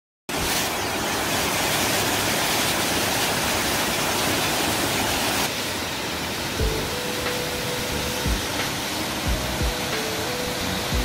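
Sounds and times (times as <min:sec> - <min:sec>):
waterfall rushing: 0:00.3 - 0:11.0.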